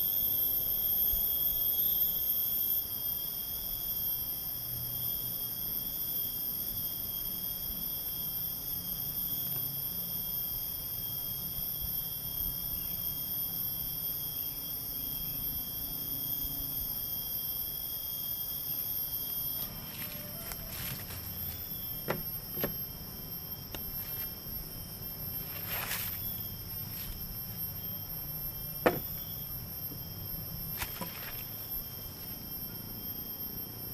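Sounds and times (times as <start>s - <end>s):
forest insects trilling: 0.0s - 33.9s.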